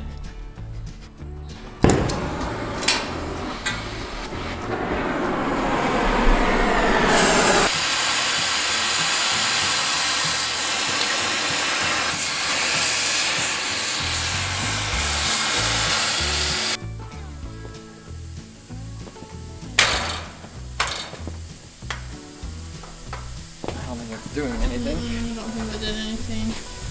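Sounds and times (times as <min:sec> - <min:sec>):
torch flame hissing: 0:01.7 - 0:16.8, 0:17.4 - 0:26.9.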